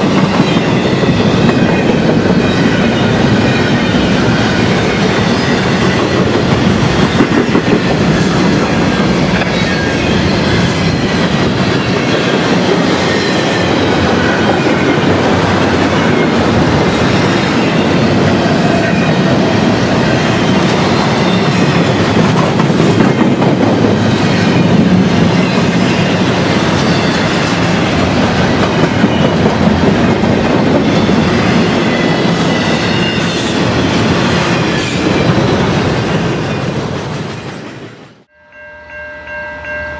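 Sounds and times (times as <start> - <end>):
train wheels rumbling on rails: 0.0 - 38.3.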